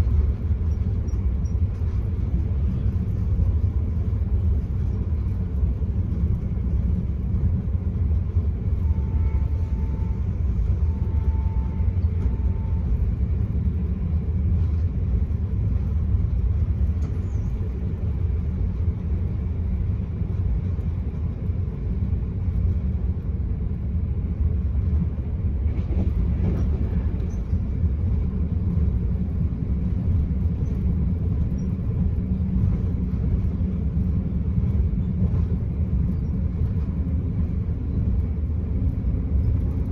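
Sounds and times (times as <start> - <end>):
train rumbling inside carriage: 0.0 - 39.9.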